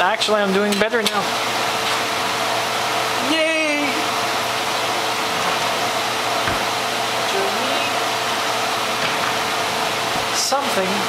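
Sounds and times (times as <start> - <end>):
whirring fan or motor hum: 0.0 - 11.0.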